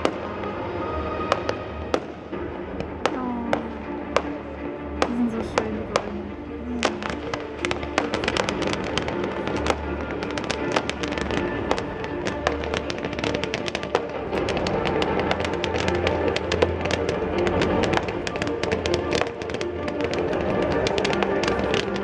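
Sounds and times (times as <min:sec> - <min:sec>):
fireworks crackling bursts: 0:00.0 - 0:04.4, 0:05.0 - 0:22.0
music playing: 0:00.0 - 0:22.0.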